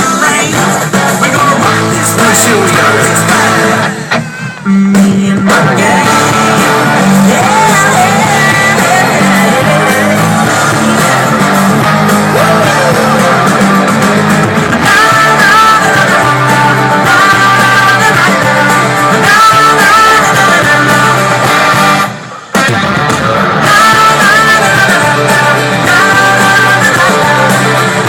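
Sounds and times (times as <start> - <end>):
rock song with singing and guitar: 0.0 - 28.0.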